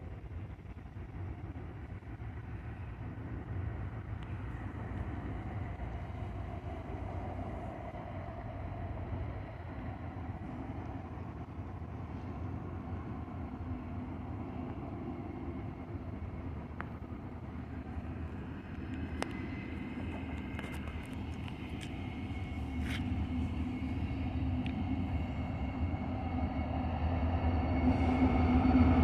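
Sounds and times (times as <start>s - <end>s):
distant freight train rumble: 0.0s - 29.0s.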